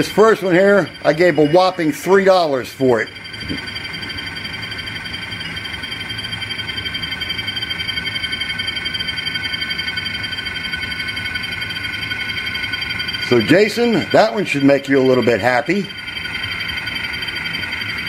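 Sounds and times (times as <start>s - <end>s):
diesel locomotive engine drone: 0.0s - 18.0s
whining tones: 0.0s - 18.0s.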